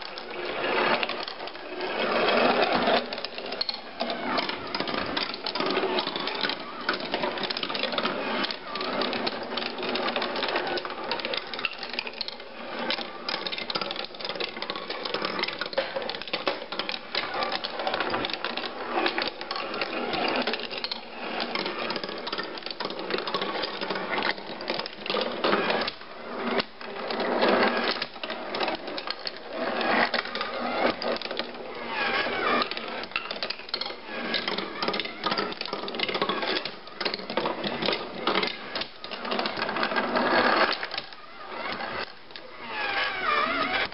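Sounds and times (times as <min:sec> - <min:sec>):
marbles rolling on wooden tracks: 0:00.0 - 0:43.9
rapid clicks and rattles: 0:00.0 - 0:43.9.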